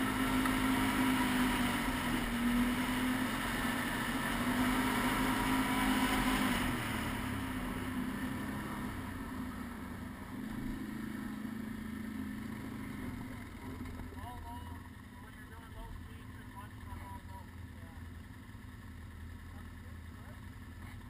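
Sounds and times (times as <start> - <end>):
quad engine running: 0.0 - 21.0.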